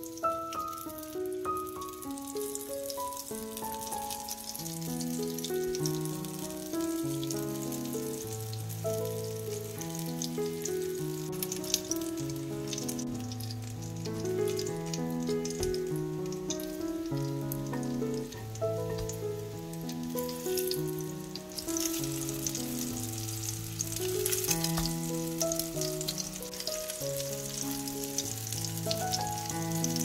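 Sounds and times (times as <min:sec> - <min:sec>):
pancakes sizzling in oil: 0:00.0 - 0:30.0
slow melodic background music: 0:00.0 - 0:30.0.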